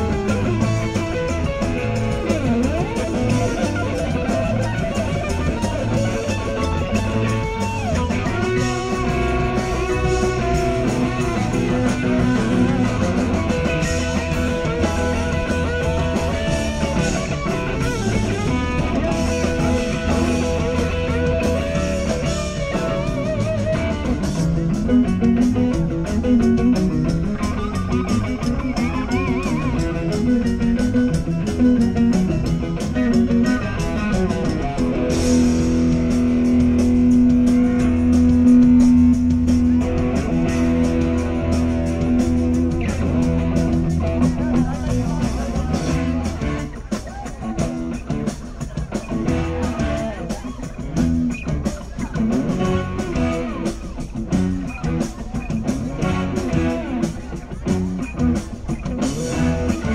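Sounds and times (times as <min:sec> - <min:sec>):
bass guitar: 0:00.0 - 0:59.9
drum kit: 0:00.0 - 0:59.9
electric guitar lead: 0:00.0 - 0:59.9.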